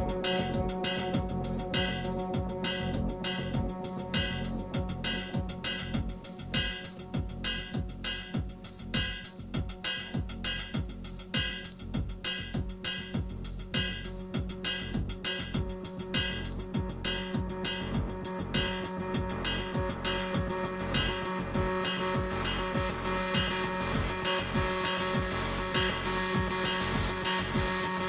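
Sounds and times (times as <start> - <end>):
low synth drone: 0.0 - 8.9, 12.2 - 28.0
drum machine beat: 0.0 - 28.0
synthesizer sequence loop: 0.0 - 28.0.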